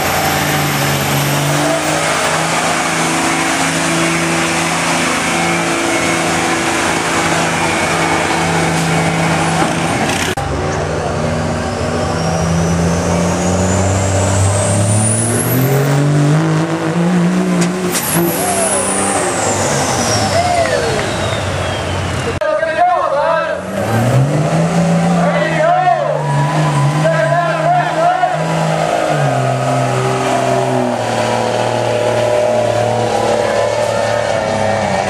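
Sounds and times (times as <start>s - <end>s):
diesel truck engine under load: 0.0s - 35.0s.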